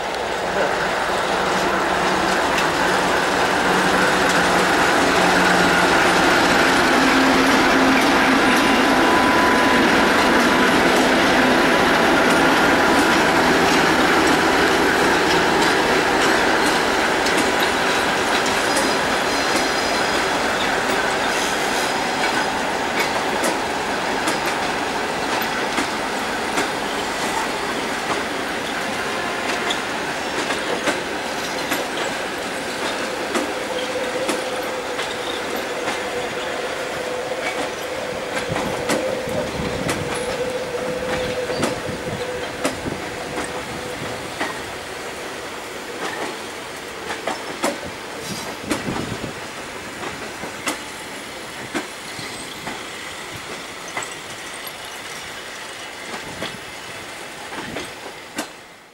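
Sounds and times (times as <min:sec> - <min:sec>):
wheels clicking over rail joints: 0:00.0 - 0:36.4, 0:45.9 - 0:51.0, 0:51.6 - 0:58.6
diesel locomotive engine: 0:00.0 - 0:58.9.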